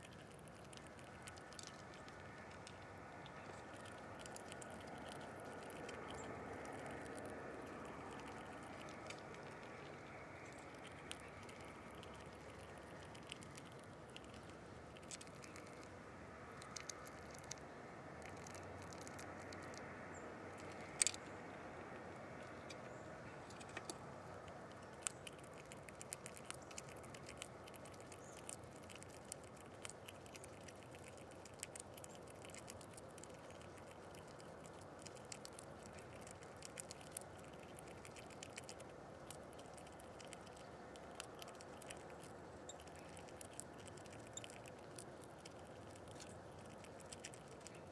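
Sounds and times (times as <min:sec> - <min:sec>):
faint steady hiss: 0:00.0 - 0:47.9
small animal clicking and tapping: 0:00.0 - 0:47.9.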